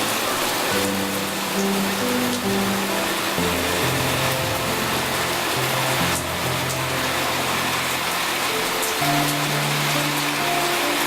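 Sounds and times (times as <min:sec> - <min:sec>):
slow keyboard music: 0:00.0 - 0:11.0
steady rain falling: 0:00.0 - 0:11.0.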